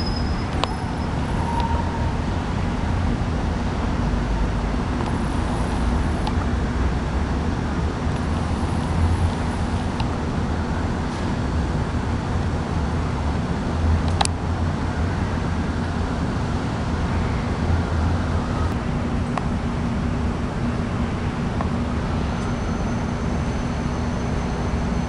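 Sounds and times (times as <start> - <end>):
air conditioner running: 0.0 - 25.0.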